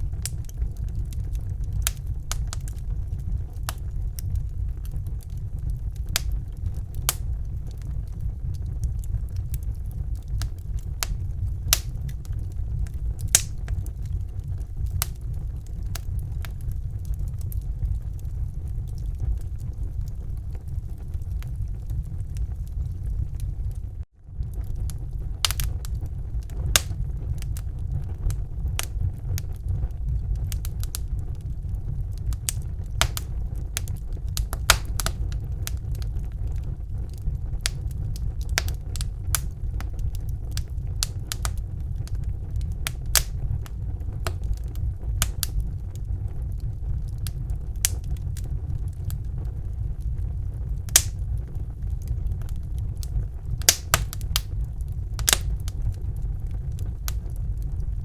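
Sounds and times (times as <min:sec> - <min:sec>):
steady low rumble: 0:00.0 - 0:58.0
wood fire crackling and popping: 0:00.0 - 0:58.0.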